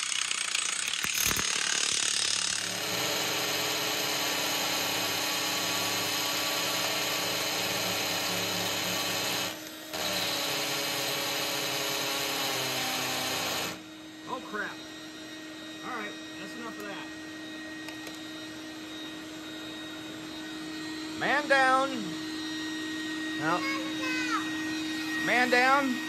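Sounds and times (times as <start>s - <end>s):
drill boring into concrete: 0.0s - 14.8s, 19.9s - 26.0s.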